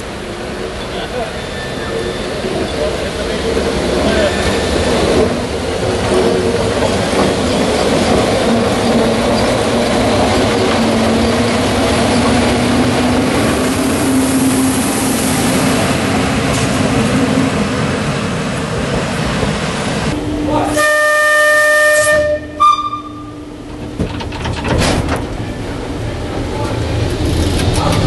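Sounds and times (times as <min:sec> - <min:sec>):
wheel and rail noise: 0:00.0 - 0:21.0, 0:21.9 - 0:28.0.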